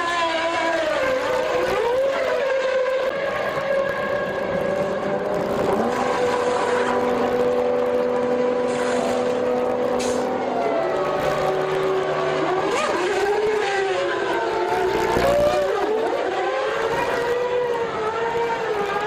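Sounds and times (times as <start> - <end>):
racing car engine: 0.0 - 19.0
second engine at lower pitch: 0.0 - 19.0.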